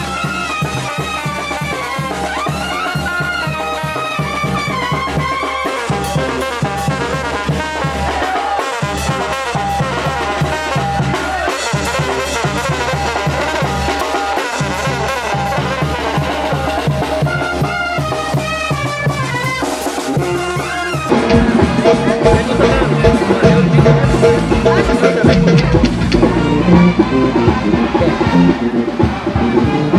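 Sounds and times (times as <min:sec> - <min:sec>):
drum and bass beat: 0:00.0 - 0:29.9
trumpets and trombones playing: 0:00.0 - 0:29.9.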